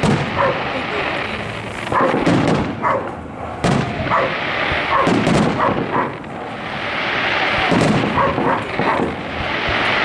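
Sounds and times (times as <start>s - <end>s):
fireworks bursting with booms: 0.0s - 10.0s.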